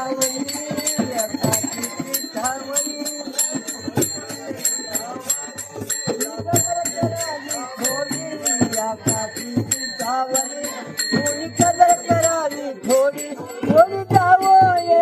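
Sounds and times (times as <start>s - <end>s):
jingling metal cymbals or bells: 0.0s - 15.0s
steady drum beats: 0.0s - 15.0s.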